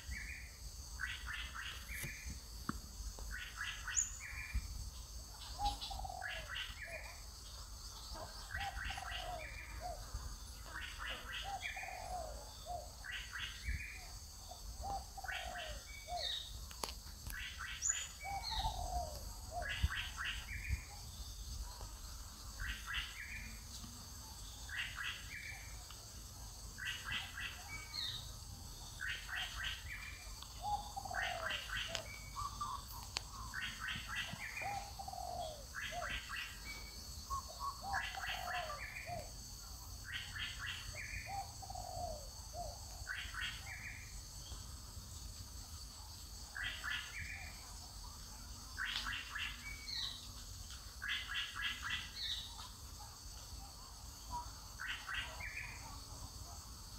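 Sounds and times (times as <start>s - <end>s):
birdsong: 0.0s - 26.0s, 26.6s - 39.4s, 40.0s - 56.2s.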